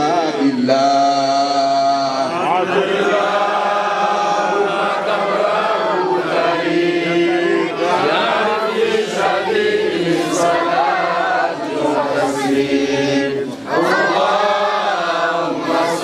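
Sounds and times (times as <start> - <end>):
men chanting together: 0.0 - 16.0.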